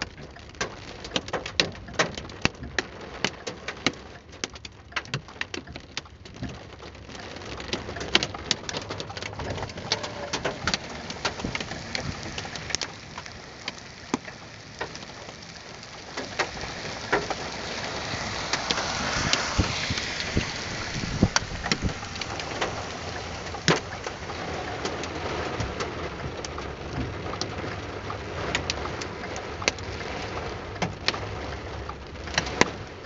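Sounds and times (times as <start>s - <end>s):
hailstones striking a car: 0.0s - 33.0s
rain hiss: 0.0s - 33.0s.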